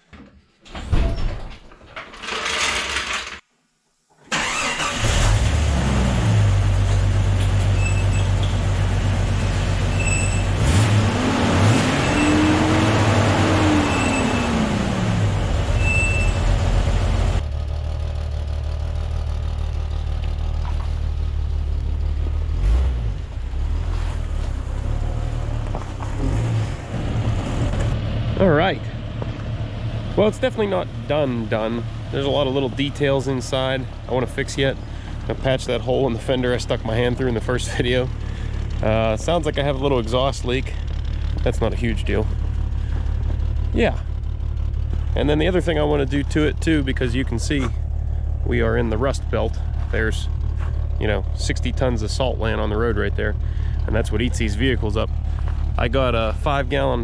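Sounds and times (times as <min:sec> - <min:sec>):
car engine revving: 0:04.4 - 0:07.9, 0:08.6 - 0:18.9, 0:21.3 - 0:57.0.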